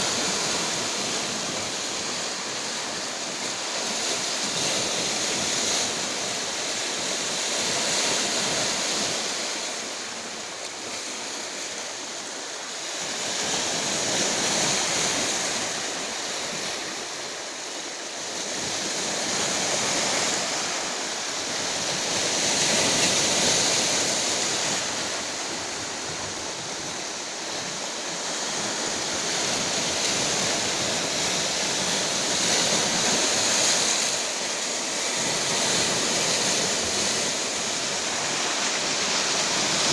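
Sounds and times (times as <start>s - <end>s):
sea surf breaking on shore: 0.0s - 39.9s.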